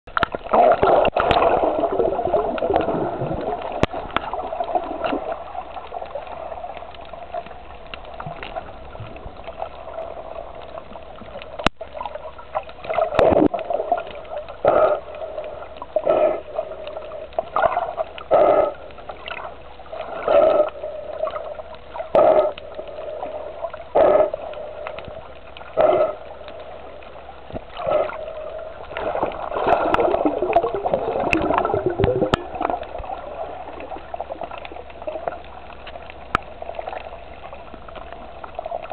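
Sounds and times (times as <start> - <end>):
muffled underwater water noise: 0.0 - 38.9
swimming swish underwater: 0.1 - 38.9.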